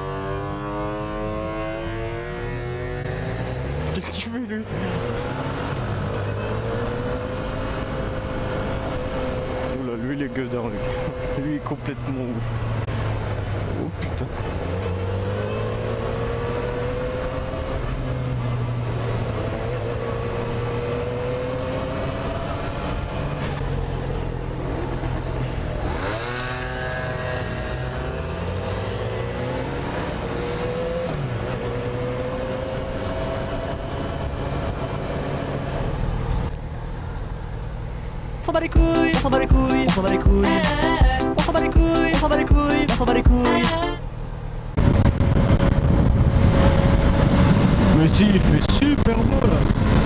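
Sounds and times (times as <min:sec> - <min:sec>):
motorcycle engine accelerating: 0:00.0 - 0:36.5, 0:44.8 - 0:50.0.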